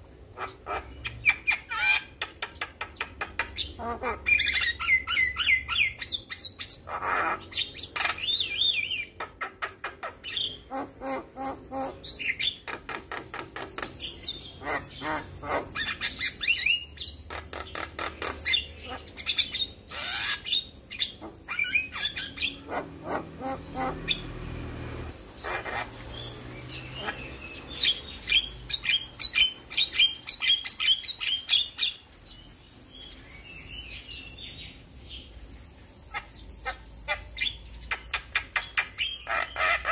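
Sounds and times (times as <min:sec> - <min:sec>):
bird song with chattering and squawks: 0:00.0 - 0:39.9.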